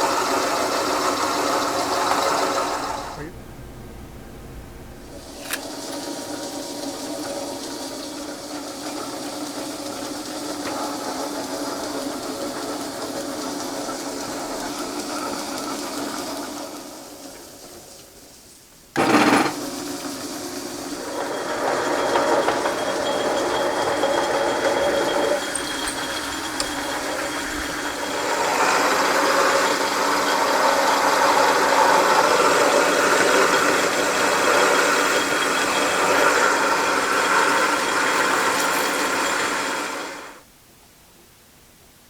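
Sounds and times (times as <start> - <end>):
metal lathe running: 0.0 - 3.3, 5.0 - 17.4, 19.0 - 40.4.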